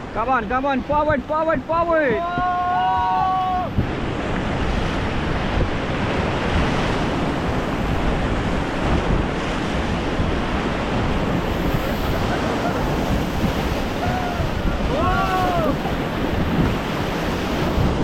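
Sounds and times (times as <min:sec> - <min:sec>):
whitewater rushing: 0:00.0 - 0:18.0
wind buffeting microphone: 0:00.0 - 0:18.0.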